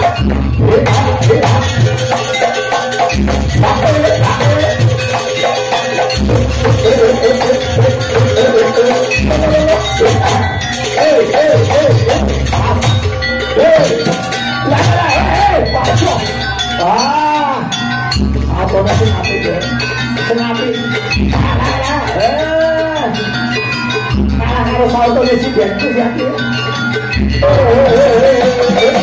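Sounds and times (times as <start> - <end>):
drums: 0.0 - 22.6, 26.5 - 29.0
rattling percussion: 0.0 - 29.0
trilling melody: 0.0 - 29.0.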